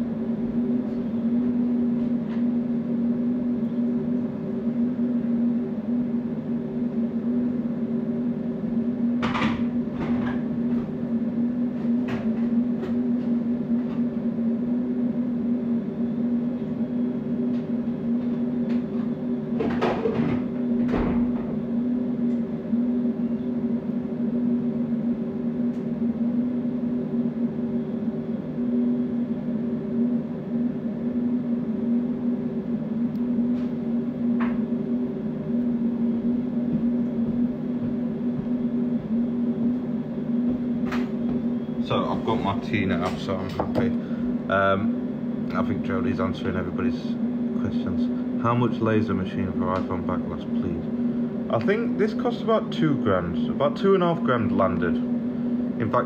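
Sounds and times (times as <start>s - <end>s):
laser machine humming: 0.0s - 56.0s.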